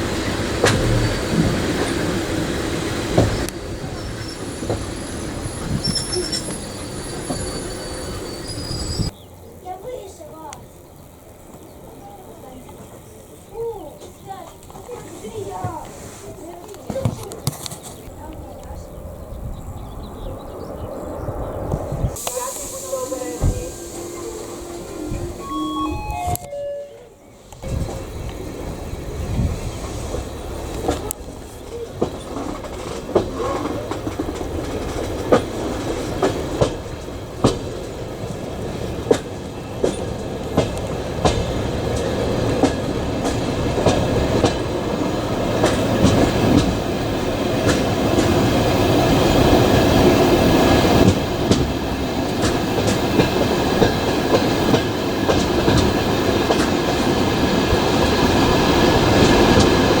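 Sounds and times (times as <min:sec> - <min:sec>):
wheels clicking over rail joints: 0:00.0 - 0:19.2, 0:26.0 - 1:00.0
train wheels rumbling on rails: 0:00.0 - 1:00.0.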